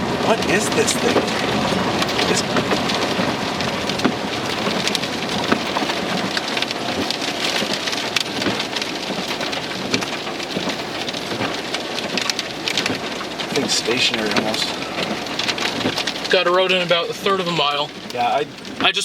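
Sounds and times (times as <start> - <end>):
rain on a car roof: 0.0 - 19.0
raindrops ticking: 0.0 - 19.0.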